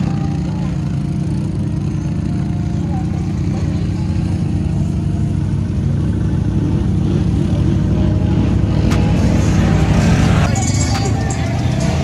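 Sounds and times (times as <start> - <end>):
off-road vehicle engines running: 0.0 - 12.0.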